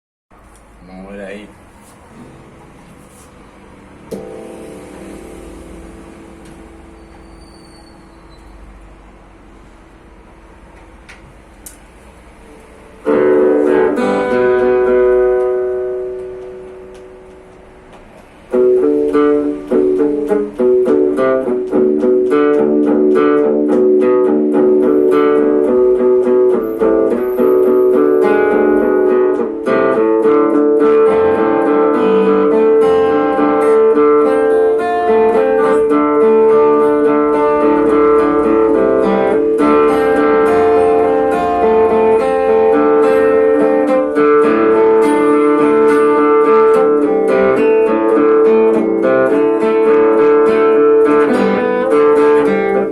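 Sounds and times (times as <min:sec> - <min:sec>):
plucked guitar music: 0:01.9 - 0:07.4, 0:08.8 - 0:52.9.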